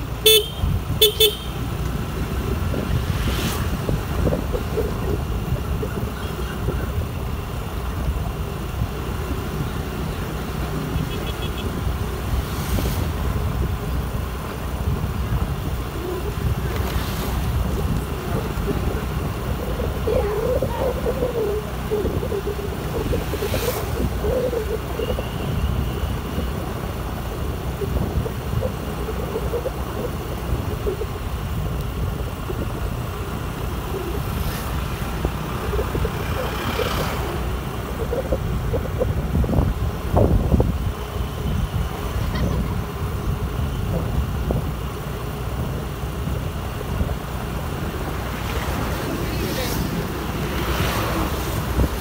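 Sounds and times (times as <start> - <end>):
scooter road and engine noise: 0.0 - 52.0
wind rumble on microphone: 0.6 - 1.1, 1.7 - 52.0.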